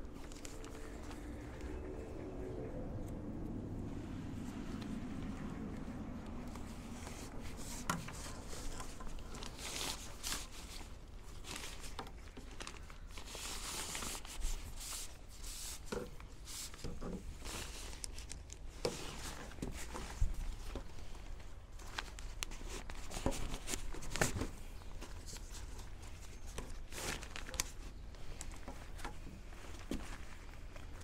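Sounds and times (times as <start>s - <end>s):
fabric rustling and crinkling: 0.0s - 31.0s.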